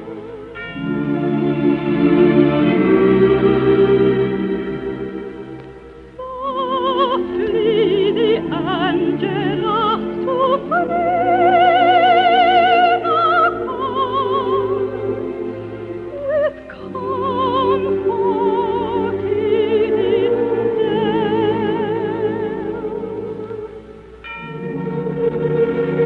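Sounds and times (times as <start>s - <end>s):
operatic soprano singing: 0.0s - 26.0s
organ-like chords: 0.0s - 26.0s
sustained accompaniment: 0.0s - 26.0s.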